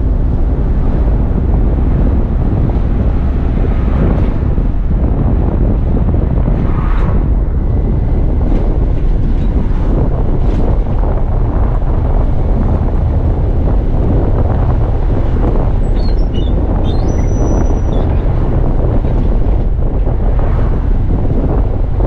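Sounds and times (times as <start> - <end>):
bus engine and road rumble: 0.0 - 22.0
wind buffeting microphone: 0.0 - 22.0.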